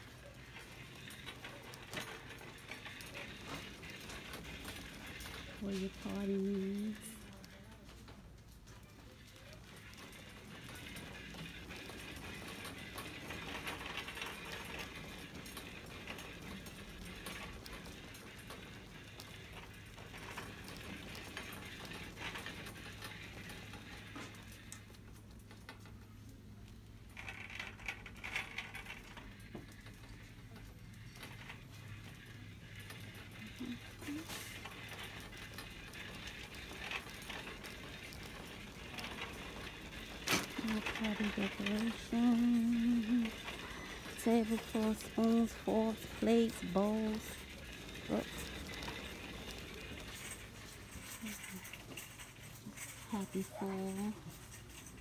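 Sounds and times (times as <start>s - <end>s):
shopping cart rolling and rattling: 0.0s - 55.0s.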